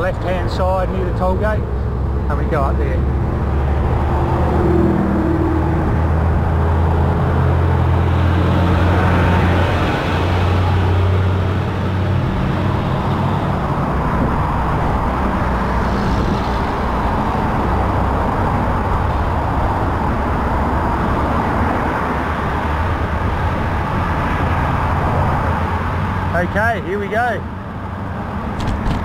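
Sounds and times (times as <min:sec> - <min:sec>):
low engine drone: 0:00.0 - 0:26.6
cars and truck driving by: 0:00.0 - 0:29.0
tyre and road noise: 0:00.0 - 0:29.0.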